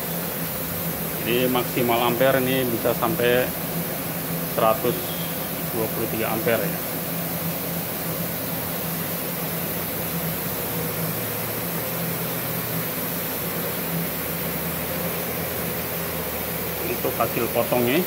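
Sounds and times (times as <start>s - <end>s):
cooling fan whirring: 0.0s - 18.0s.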